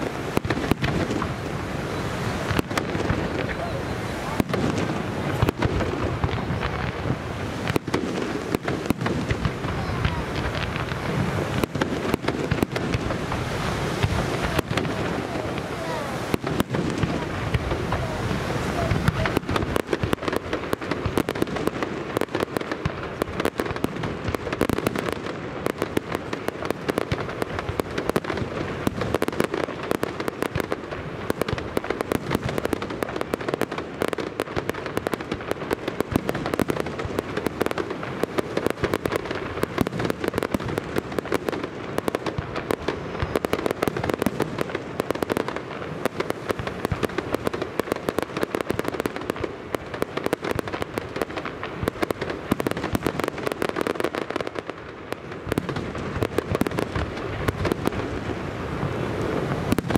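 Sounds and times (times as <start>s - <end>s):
fireworks crackling: 0.0s - 59.9s
fireworks pops: 0.0s - 59.9s.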